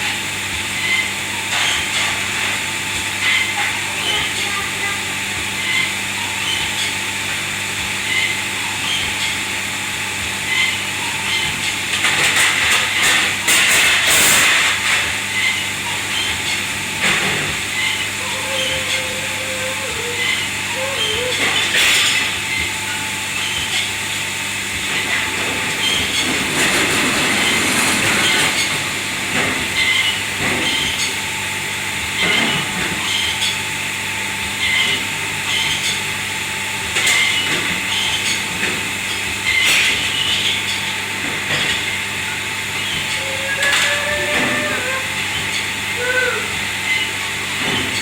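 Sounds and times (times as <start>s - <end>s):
machinery hum: 0.0s - 48.0s.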